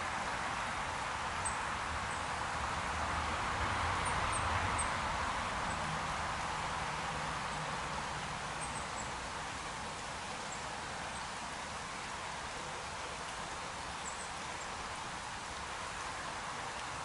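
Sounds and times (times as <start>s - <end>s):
stream rushing over gravel: 0.0s - 17.0s.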